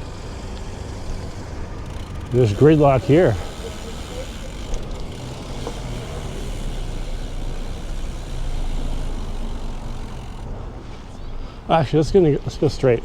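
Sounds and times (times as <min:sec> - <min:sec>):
road noise: 0:00.0 - 0:13.0
vehicle engines in slow traffic: 0:00.0 - 0:13.0.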